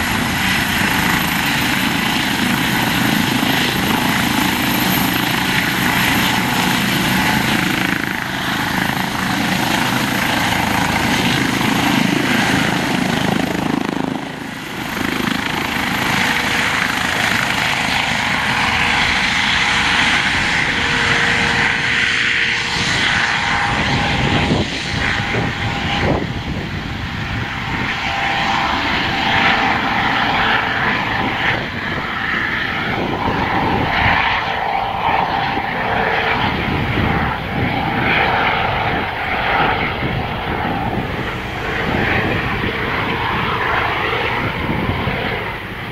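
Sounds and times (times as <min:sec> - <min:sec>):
helicopter lifting off and flying: 0:00.0 - 0:45.9.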